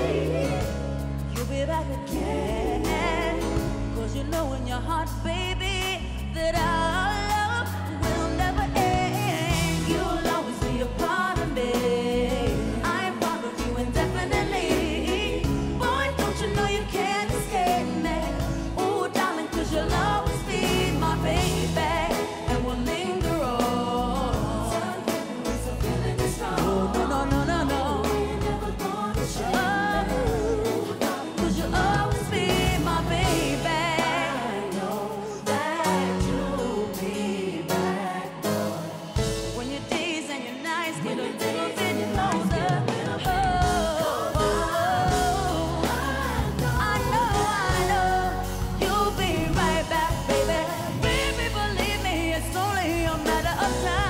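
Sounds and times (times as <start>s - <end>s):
steady bass line: 0.0s - 13.0s, 13.6s - 18.9s, 19.6s - 34.5s, 43.3s - 54.0s
band playing: 0.0s - 54.0s
woman singing a ballad: 0.0s - 54.0s.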